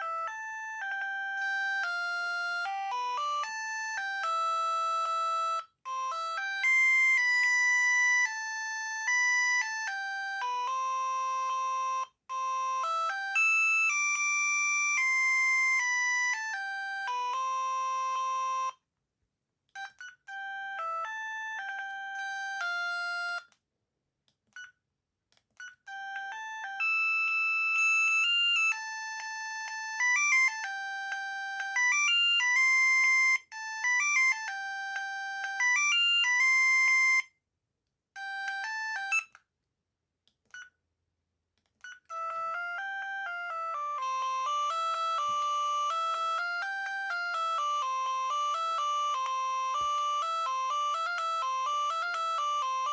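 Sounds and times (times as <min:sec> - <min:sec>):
mobile phone ringtone melodies: 0:00.0 - 0:18.8, 0:19.8 - 0:23.5, 0:25.8 - 0:37.3, 0:38.2 - 0:39.4, 0:42.0 - 0:52.9.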